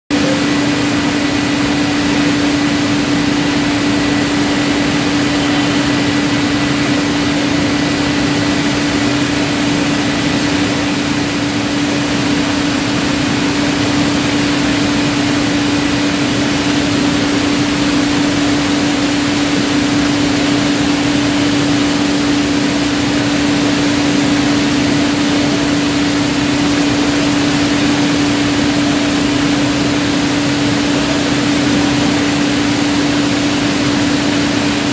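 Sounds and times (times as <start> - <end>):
constant hum: 0.1 - 34.9
factory machinery running: 0.1 - 34.9.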